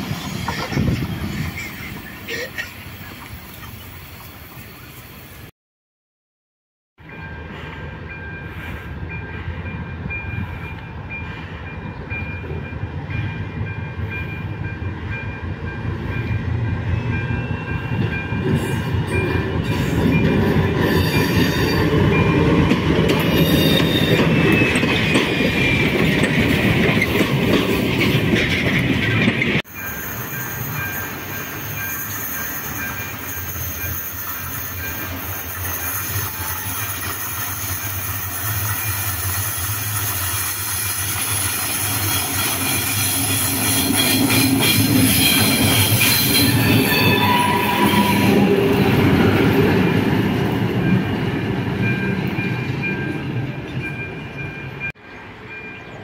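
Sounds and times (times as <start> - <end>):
diesel locomotive engine: 0.0 - 5.5, 7.0 - 56.0
wheels squealing on rails: 0.0 - 5.5, 7.0 - 56.0.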